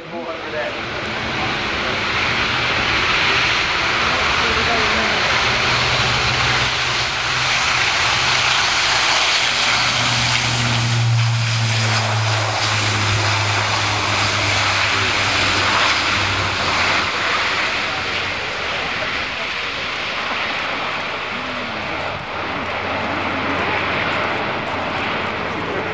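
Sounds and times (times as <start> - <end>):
turboprop aircraft roaring on takeoff: 0.0 - 25.9.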